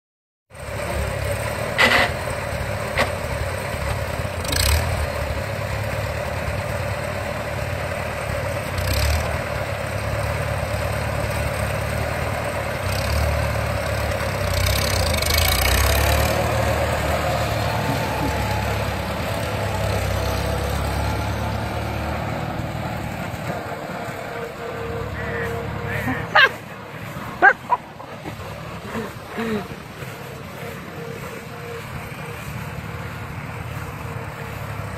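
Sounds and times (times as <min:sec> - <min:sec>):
tractor engine running: 0:00.5 - 0:34.9.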